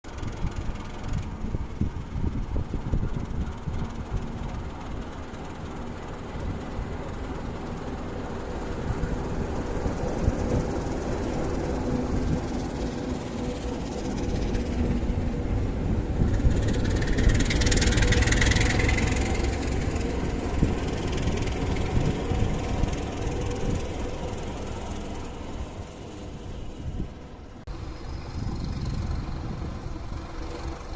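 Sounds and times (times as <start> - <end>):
diesel locomotive engine drone: 0.0 - 30.9
freight wagons rolling on rails: 0.1 - 30.9.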